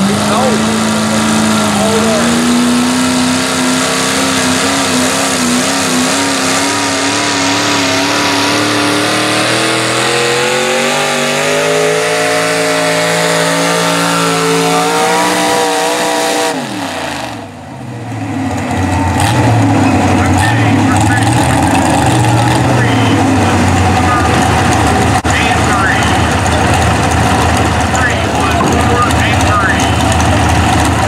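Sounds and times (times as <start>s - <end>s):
pulling tractor engine at full throttle: 0.0s - 31.0s.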